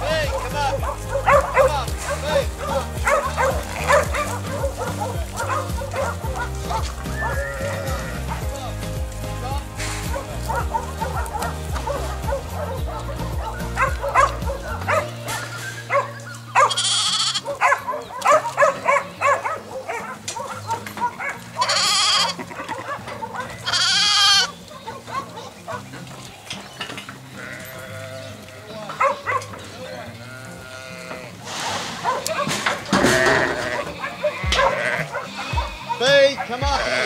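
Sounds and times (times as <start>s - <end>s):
sheep bleating: 0.0s - 26.0s, 27.1s - 31.5s, 32.9s - 37.0s.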